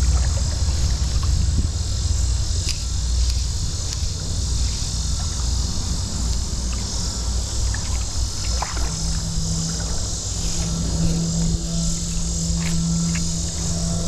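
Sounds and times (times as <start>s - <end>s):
insect drone: 0.0s - 14.0s
low steady hum: 0.0s - 14.0s
wind rumble on microphone: 0.0s - 14.0s.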